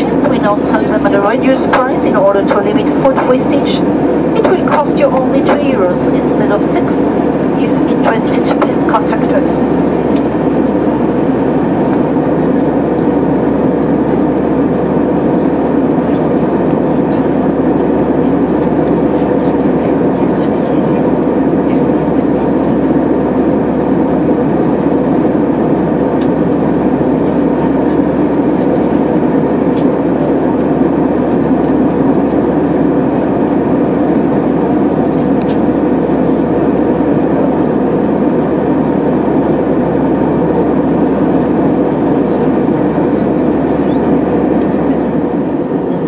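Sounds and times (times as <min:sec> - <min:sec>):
airplane engines humming: 0:00.0 - 0:46.0.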